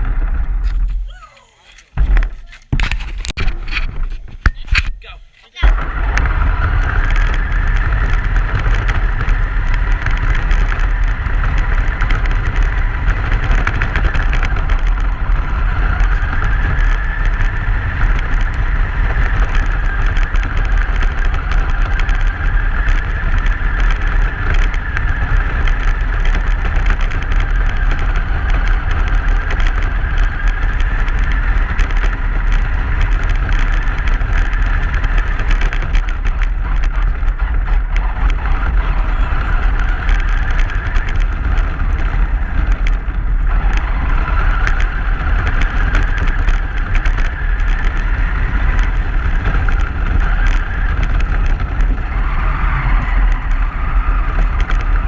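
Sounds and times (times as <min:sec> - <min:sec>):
truck road noise with low rumble: 0:00.0 - 0:55.0.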